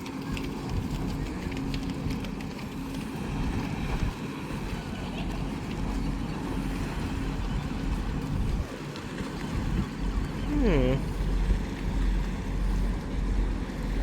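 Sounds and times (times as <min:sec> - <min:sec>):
faint constant hum: 0:00.0 - 0:14.0
ship's low rumble: 0:00.0 - 0:14.0
wind buffeting microphone: 0:00.0 - 0:14.0.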